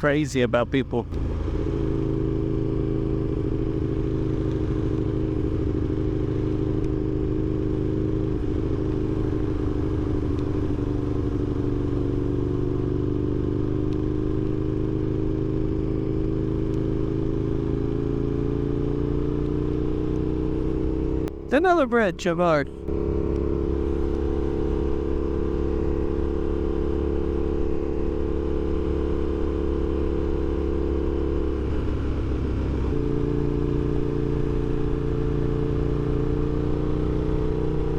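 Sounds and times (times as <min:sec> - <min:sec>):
motorcycle engine running: 0:00.0 - 0:22.1, 0:22.7 - 0:37.9.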